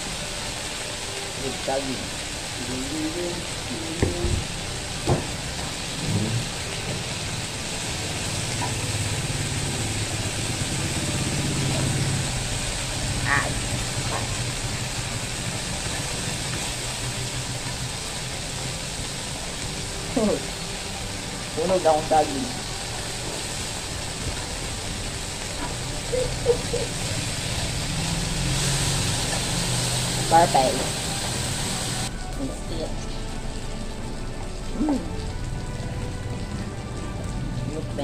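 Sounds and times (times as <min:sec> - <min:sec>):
food sizzling on grill pan: 0:00.0 - 0:38.0.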